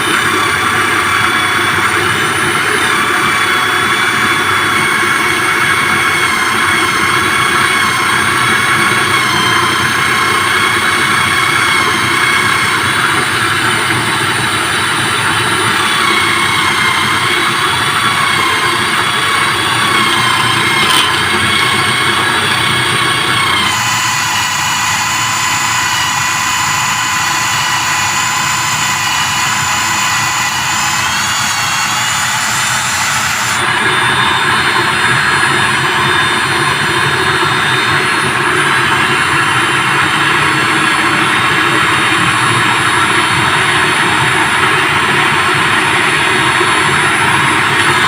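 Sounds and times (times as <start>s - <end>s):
electric drill motor whining: 0.0s - 48.0s.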